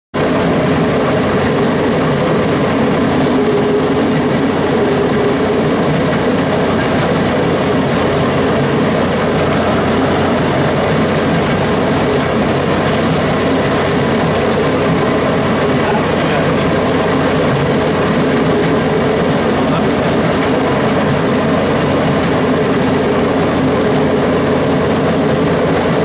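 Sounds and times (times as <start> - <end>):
track car engine: 0.2 - 26.0
wheels on rails: 0.2 - 26.0.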